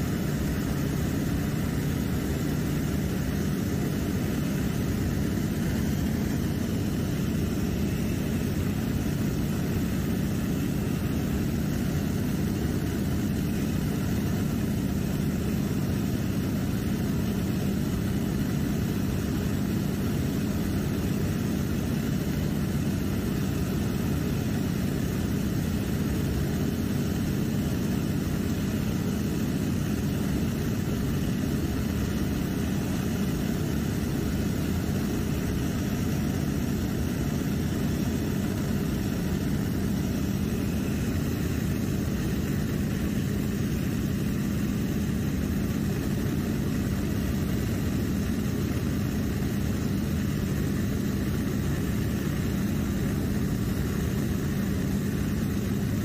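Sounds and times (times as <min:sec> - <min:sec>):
propeller engine droning: 0:00.0 - 0:56.0.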